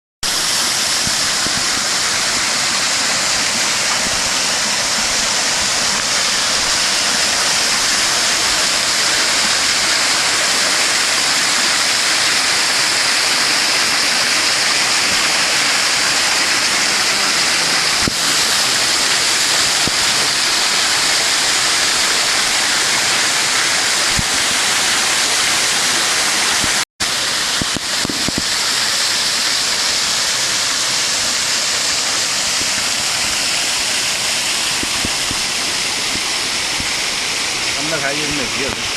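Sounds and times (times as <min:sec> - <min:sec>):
rushing water: 0:00.2 - 0:38.9.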